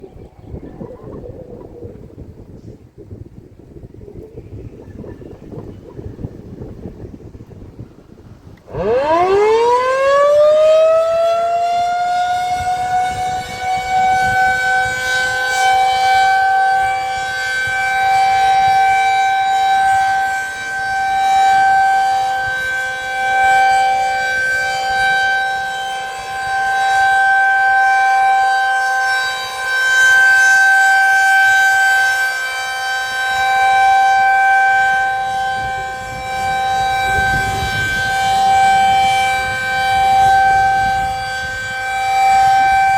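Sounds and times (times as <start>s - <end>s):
rotating warning siren: 0.0s - 42.9s.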